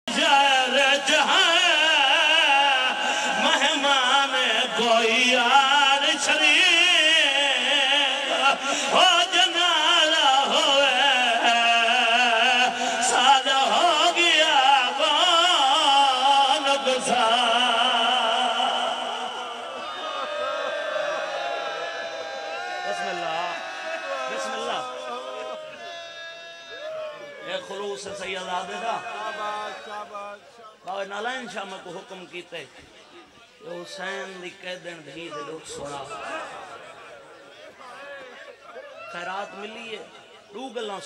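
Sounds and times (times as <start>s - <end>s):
man chanting over loudspeaker: 0.0s - 19.8s, 22.8s - 25.8s, 26.8s - 37.2s.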